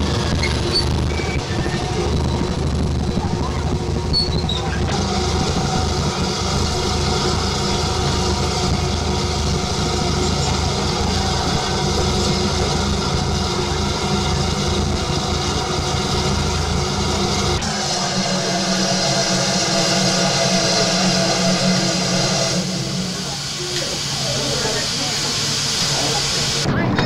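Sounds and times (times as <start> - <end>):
steam locomotive hissing: 0.0 - 26.8.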